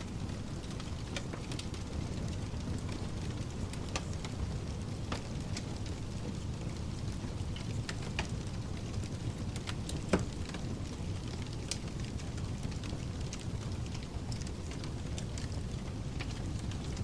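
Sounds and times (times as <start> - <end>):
steady low hiss: 0.0 - 17.0
wood fire crackling and popping: 0.0 - 17.0.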